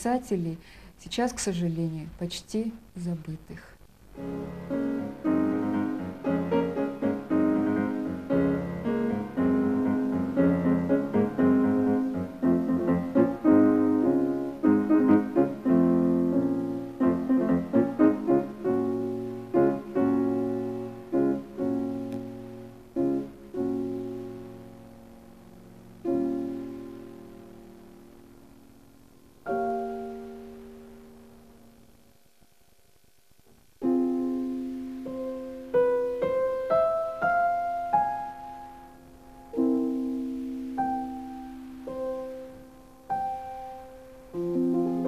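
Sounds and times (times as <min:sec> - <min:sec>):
solo piano melody: 0:04.2 - 0:32.8, 0:33.6 - 0:45.0.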